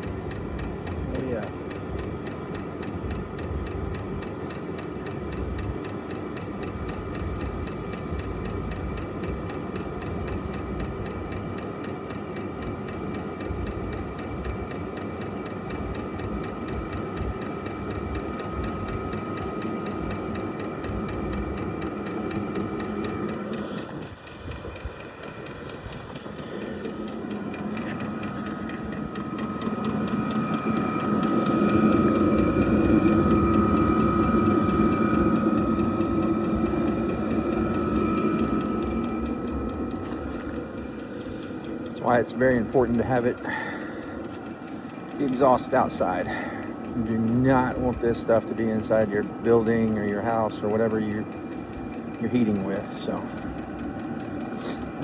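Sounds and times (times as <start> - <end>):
air heater blower whine: 0.0 - 55.0
faint regular ticking: 0.0 - 55.0.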